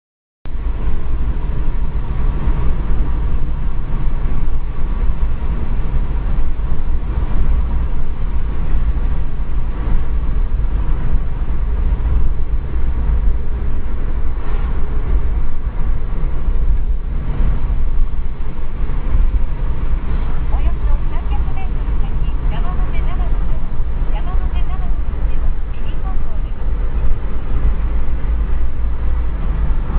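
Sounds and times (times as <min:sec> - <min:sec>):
road and wind noise in car: 0:00.5 - 0:29.9.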